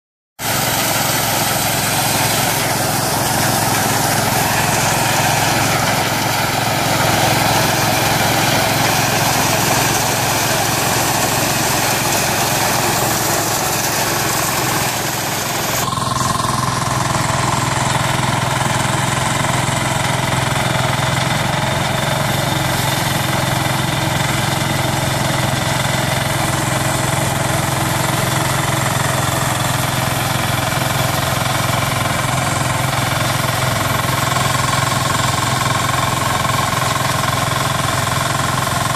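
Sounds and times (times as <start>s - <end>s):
combine harvester running: 0.4s - 38.9s.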